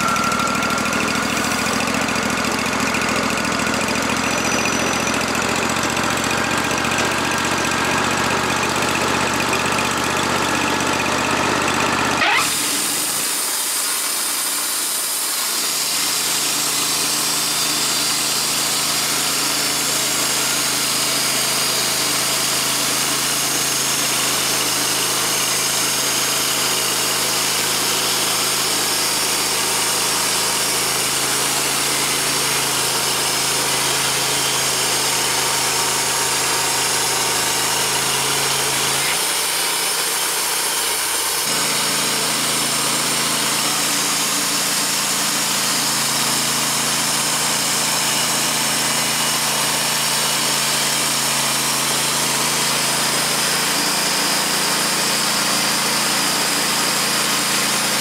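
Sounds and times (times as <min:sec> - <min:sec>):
band blade cutting log: 0:00.0 - 0:58.0
sawmill engine humming: 0:00.0 - 0:58.0.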